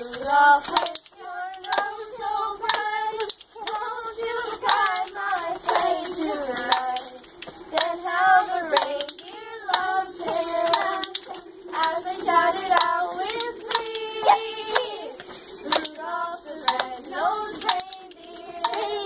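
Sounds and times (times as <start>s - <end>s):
children singing a carol: 0.0s - 19.0s
hand claps: 0.0s - 19.0s.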